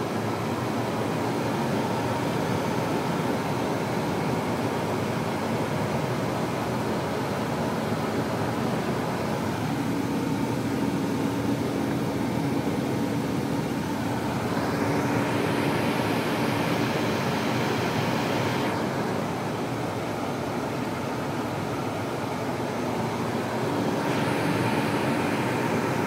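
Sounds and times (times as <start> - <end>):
bus engine and road noise: 0.0 - 26.0.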